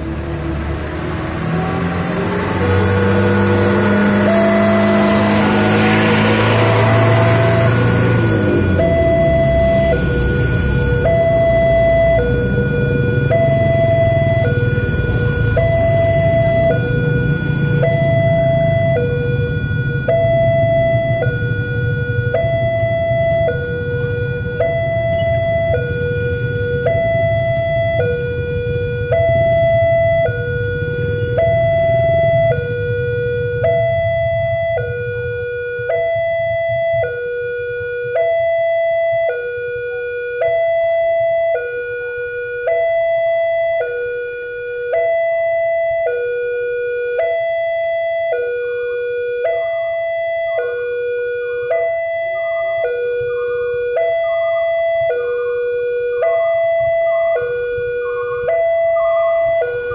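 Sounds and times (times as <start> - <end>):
two-tone crossing alarm chime: 1.6 - 39.8, 40.4 - 59.9.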